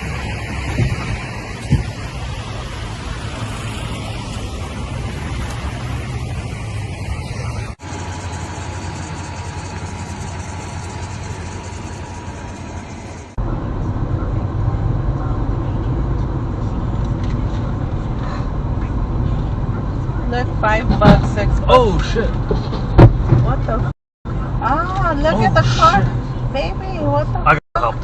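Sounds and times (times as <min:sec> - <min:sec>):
moving car road and engine noise: 0:00.0 - 0:28.0.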